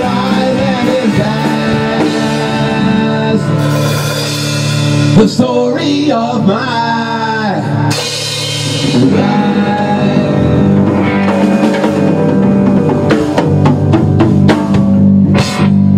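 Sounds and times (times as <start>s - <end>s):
rock band playing: 0.0s - 15.9s.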